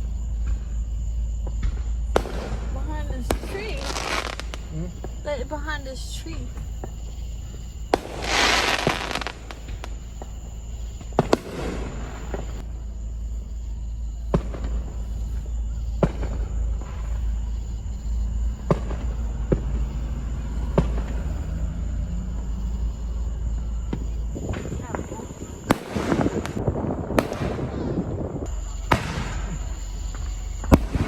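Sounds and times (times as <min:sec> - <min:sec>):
fireworks crackling burst: 0:00.0 - 0:31.0
fireworks sharp bangs: 0:00.0 - 0:31.0
steady low rumble: 0:00.0 - 0:31.0.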